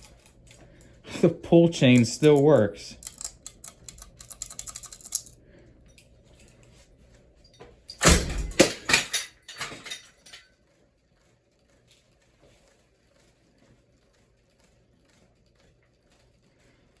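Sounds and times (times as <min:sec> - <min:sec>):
ceiling fan clattering: 0:00.0 - 0:17.0.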